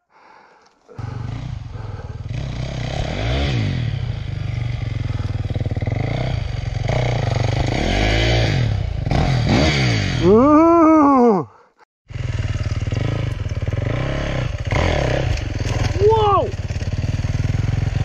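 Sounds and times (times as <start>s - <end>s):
dirt bike engine revving: 0.9s - 10.8s, 12.1s - 18.0s.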